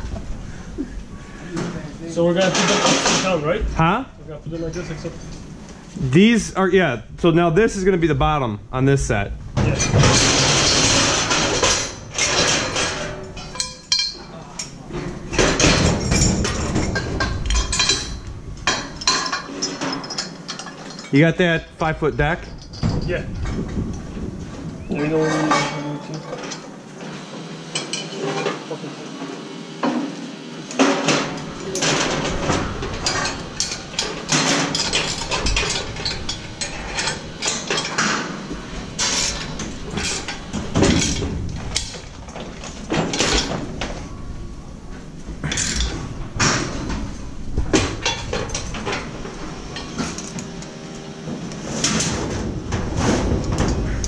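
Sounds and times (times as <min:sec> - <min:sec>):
steel scaffolding clanking: 0:00.0 - 0:05.6, 0:09.6 - 0:28.8, 0:30.7 - 0:54.0.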